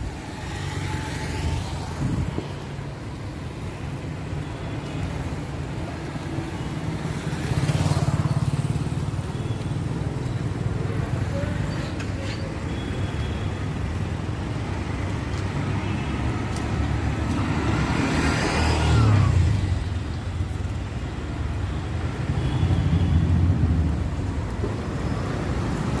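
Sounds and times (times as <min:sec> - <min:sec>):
low rumble of cars: 0:00.0 - 0:26.0.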